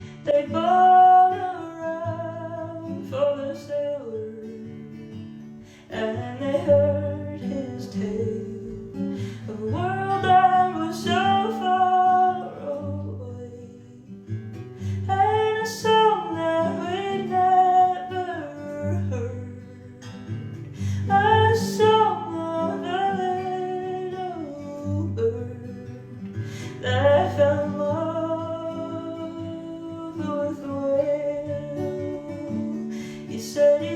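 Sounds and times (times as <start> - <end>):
acoustic guitar: 0.0 - 33.9
woman singing folk ballad: 0.0 - 33.9.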